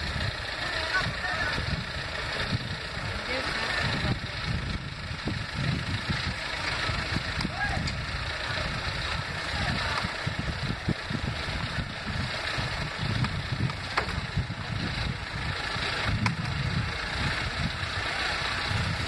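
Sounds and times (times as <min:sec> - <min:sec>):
diesel engines idling: 0:00.0 - 0:19.0.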